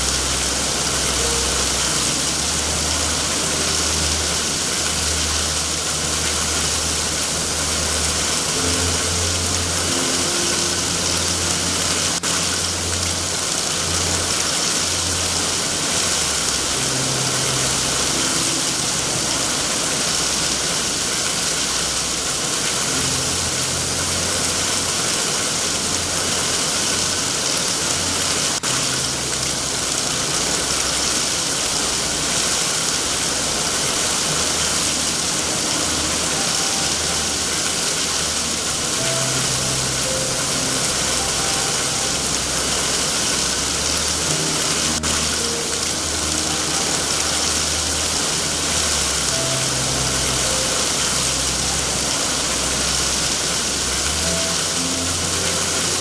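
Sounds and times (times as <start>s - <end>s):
heavy rain hiss: 0.0s - 56.0s
low uneven rumble: 0.0s - 56.0s.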